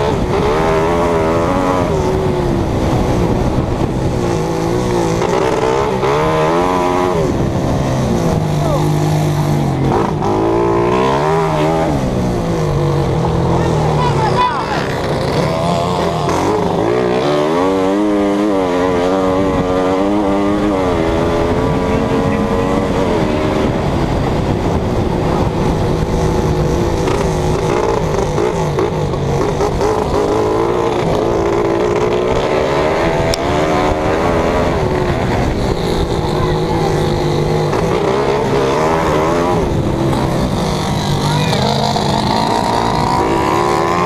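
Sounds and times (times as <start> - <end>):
racing engine revving: 0.0 - 44.0.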